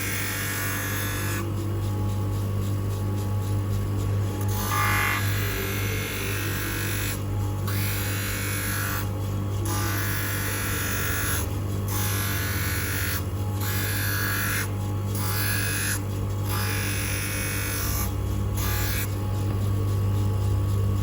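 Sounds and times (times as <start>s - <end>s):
background music: 0.0s - 21.0s
machine motor humming: 0.0s - 21.0s.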